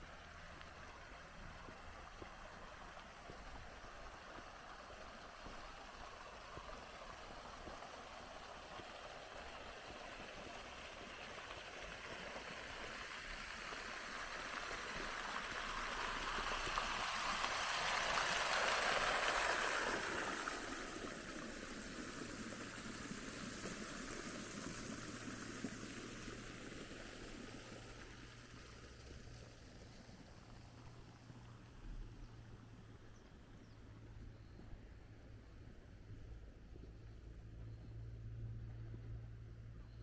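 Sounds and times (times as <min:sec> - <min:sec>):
fountain water splashing: 0:00.0 - 0:37.4.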